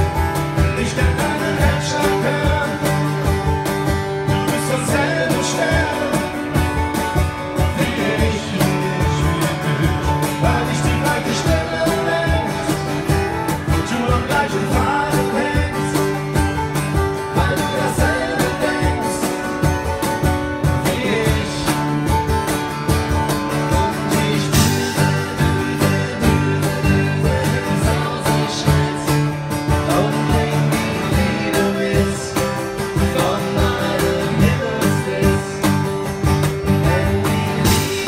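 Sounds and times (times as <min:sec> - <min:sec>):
acoustic guitars strummed: 0:00.0 - 0:38.0.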